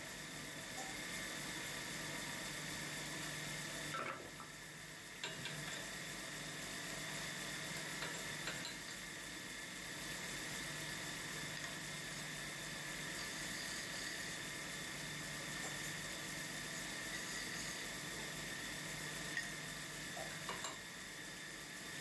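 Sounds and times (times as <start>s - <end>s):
metal-spinning lathe hissing: 0.0s - 22.0s.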